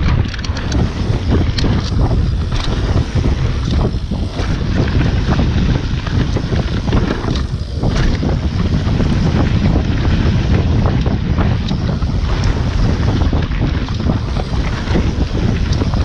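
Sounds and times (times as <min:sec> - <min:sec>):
bike knocking and rattling: 0:00.0 - 0:16.0
tyres rolling over gravel: 0:00.0 - 0:16.0
wind buffeting microphone: 0:00.0 - 0:16.0.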